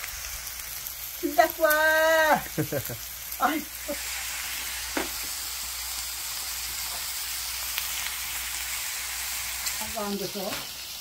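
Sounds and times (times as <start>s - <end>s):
fat sizzling on hot stone: 0.0s - 11.0s.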